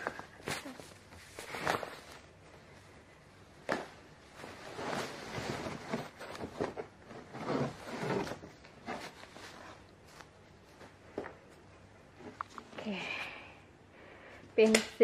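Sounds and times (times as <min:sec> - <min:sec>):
fabric and packaging rustling: 0:00.0 - 0:12.9.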